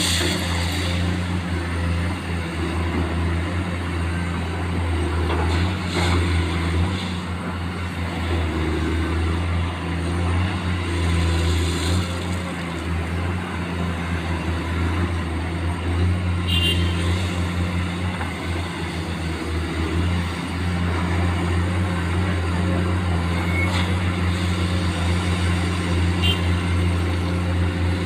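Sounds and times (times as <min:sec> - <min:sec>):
excavator diesel engine drone: 0:00.0 - 0:28.0.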